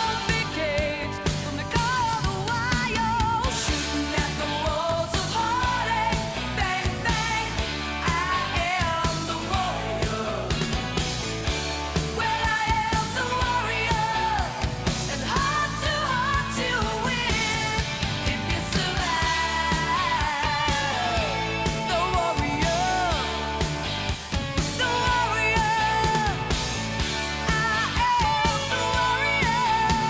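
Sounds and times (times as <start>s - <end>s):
pop-rock song with vocals: 0.0s - 30.0s.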